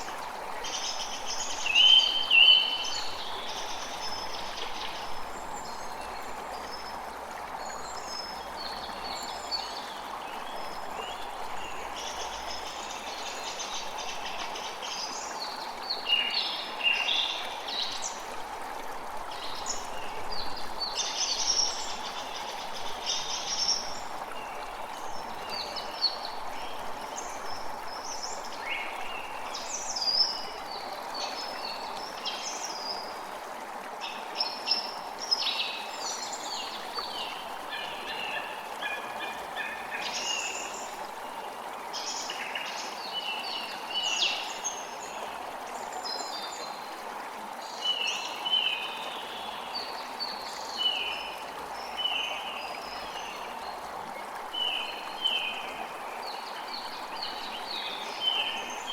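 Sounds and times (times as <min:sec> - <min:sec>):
creek water flowing: 0:00.0 - 0:58.9.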